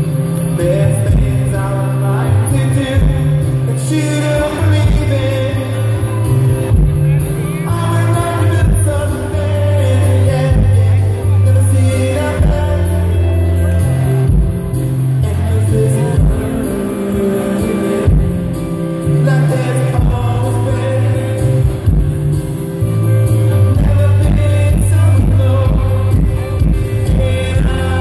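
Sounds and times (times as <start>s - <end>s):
acoustic guitar: 0.0s - 28.0s
deep bass line: 0.0s - 28.0s
keyboards: 0.0s - 28.0s.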